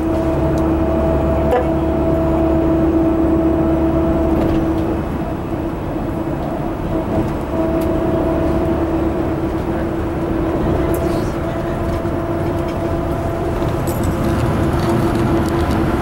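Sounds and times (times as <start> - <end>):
coach engine and road drone: 0.0 - 16.0.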